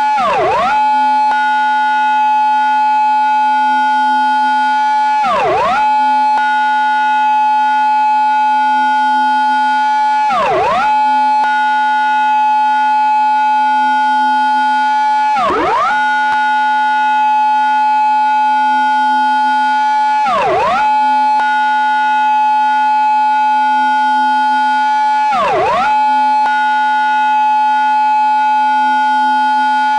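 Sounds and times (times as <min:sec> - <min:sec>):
police car siren wailing: 0:00.0 - 0:29.9.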